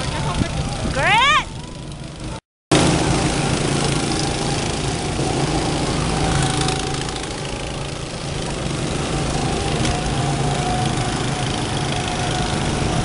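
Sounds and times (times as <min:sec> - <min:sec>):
go-kart engines droning: 0:00.0 - 0:13.0.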